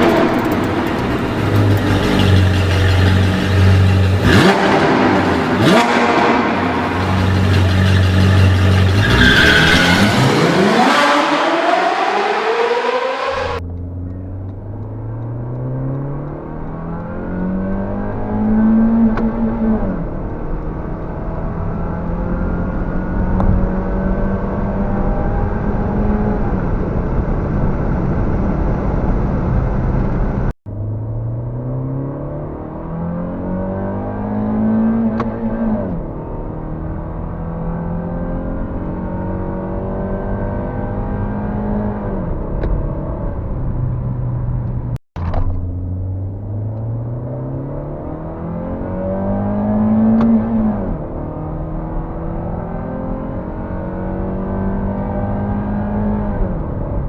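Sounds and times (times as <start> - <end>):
car engine accelerating hard: 0.0 - 57.0.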